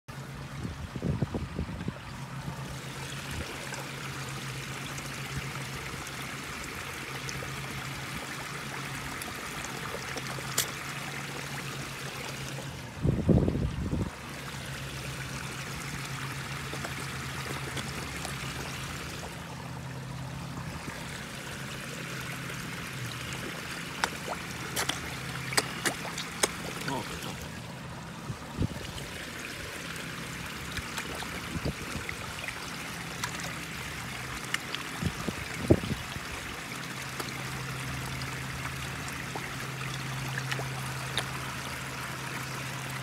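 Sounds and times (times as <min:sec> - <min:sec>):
steady low hum: 0:00.1 - 0:43.0
water trickling and splashing: 0:00.1 - 0:43.0.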